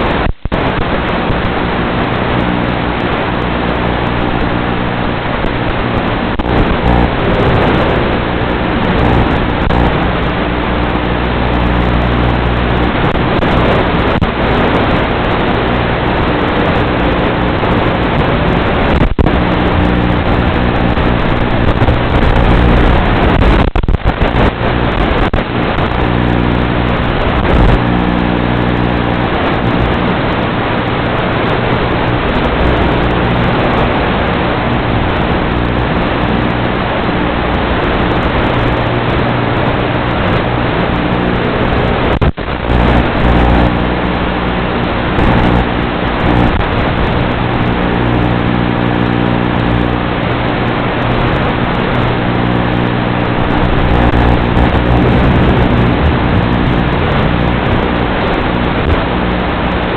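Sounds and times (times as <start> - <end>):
low electrical hum: 0.0 - 59.9
static hiss: 0.0 - 59.9.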